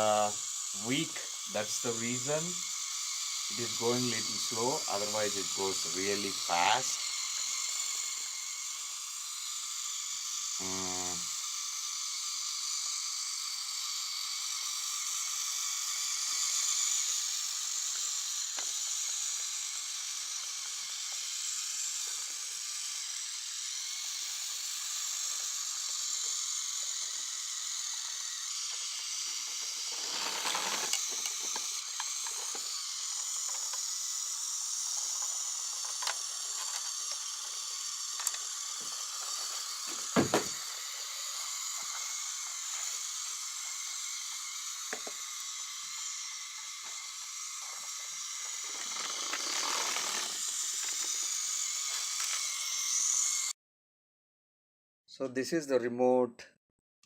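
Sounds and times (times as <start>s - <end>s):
toy train motor whirring: 0.0s - 53.6s.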